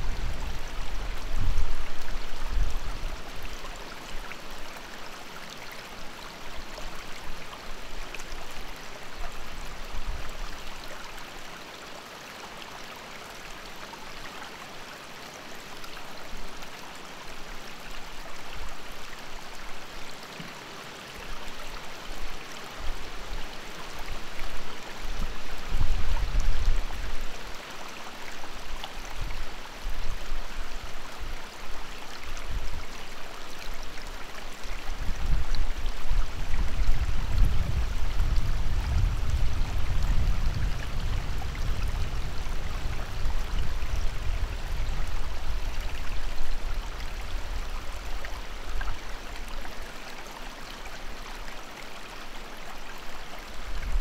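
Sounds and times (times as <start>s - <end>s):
creek babbling over stones: 0.0s - 54.0s.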